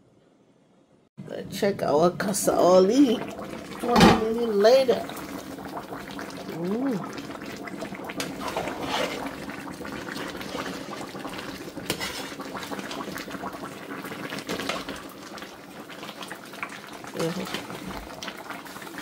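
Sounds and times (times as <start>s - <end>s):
soup boiling and bubbling: 1.6s - 19.0s
thick bubbles popping: 3.0s - 19.0s.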